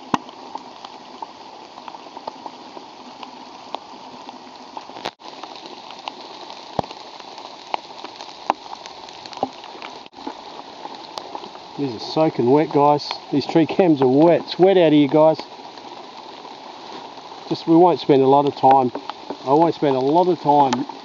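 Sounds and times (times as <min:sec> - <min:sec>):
raindrops tapping close by: 0:00.0 - 0:21.0
steady rain falling: 0:00.0 - 0:21.0.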